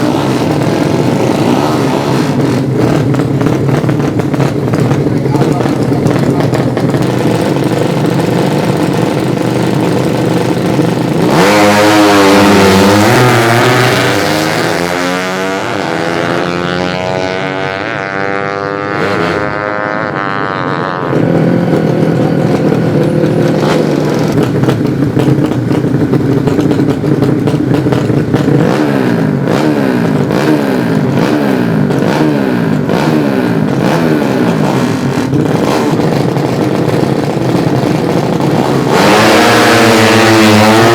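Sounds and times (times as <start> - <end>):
motorcycle engines at high idle: 0.0 - 14.6, 19.4 - 40.9
motorcycle throttle blipping: 0.0 - 14.6, 17.1 - 40.9
motorcycle accelerating hard: 0.0 - 40.9.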